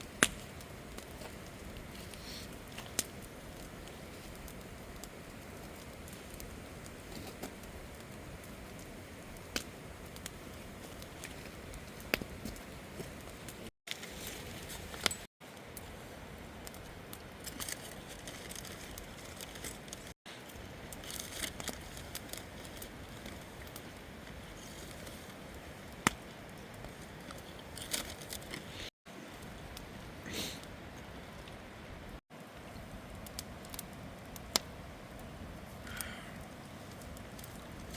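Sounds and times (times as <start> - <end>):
campfire hissing: 0.0 - 37.9
wood crackling and popping: 0.0 - 37.9.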